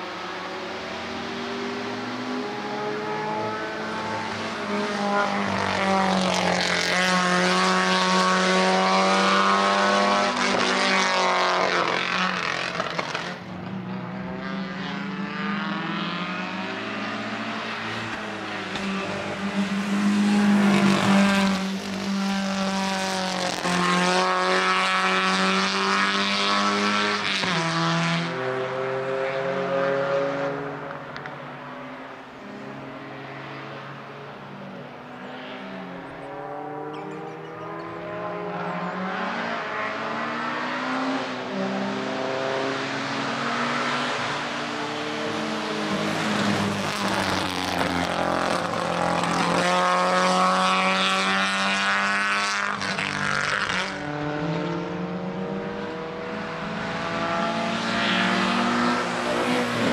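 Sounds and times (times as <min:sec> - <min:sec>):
car engine revving past: 0:00.2 - 0:13.4, 0:14.0 - 0:31.4, 0:35.3 - 0:59.9.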